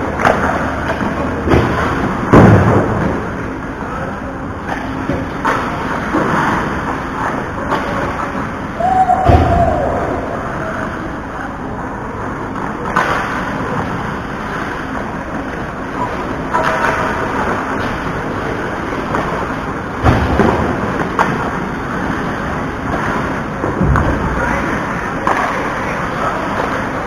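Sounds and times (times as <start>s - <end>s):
steady rumbling noise: 0.0s - 27.0s.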